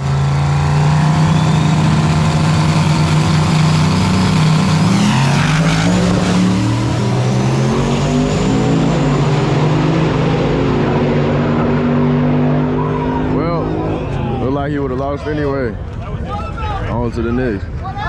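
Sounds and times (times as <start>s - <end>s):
vehicle engines revving: 0.0s - 16.0s.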